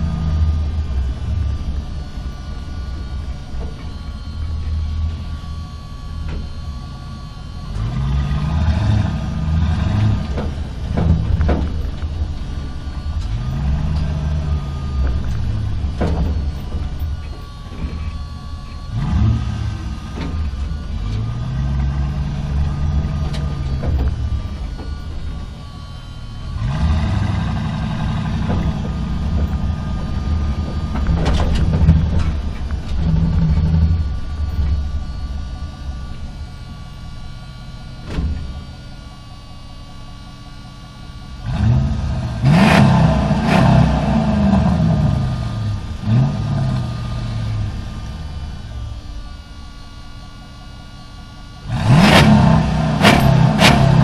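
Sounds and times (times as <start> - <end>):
truck engine driving: 0.0 - 54.0.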